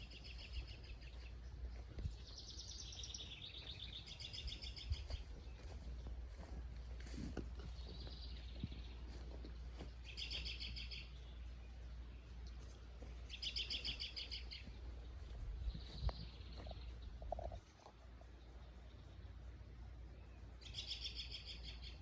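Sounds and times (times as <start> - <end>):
steady low rumble: 0.0 - 20.7
songbirds singing trills: 0.0 - 22.0.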